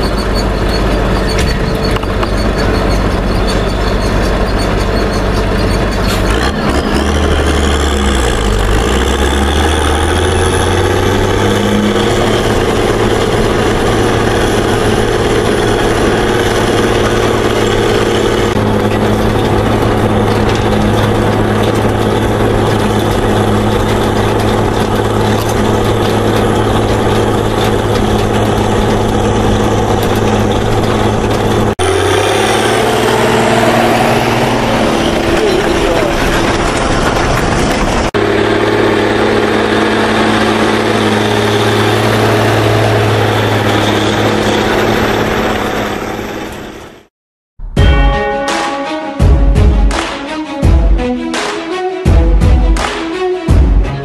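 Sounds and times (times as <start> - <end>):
tractor diesel engine under load: 0.0 - 47.7.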